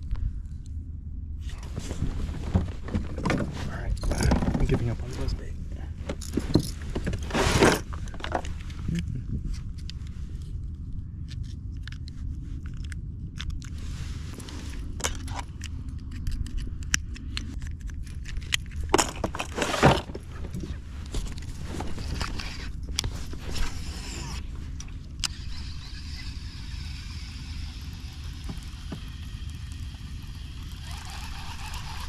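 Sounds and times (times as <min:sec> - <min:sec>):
steady low rumble: 0:00.0 - 0:32.0
gear clicks and scrapes: 0:01.4 - 0:32.0.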